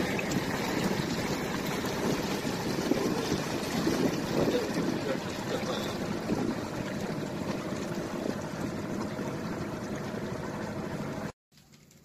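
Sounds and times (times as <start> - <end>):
motorboat motor running: 0.0 - 12.0
water rushing past hull: 0.0 - 12.0.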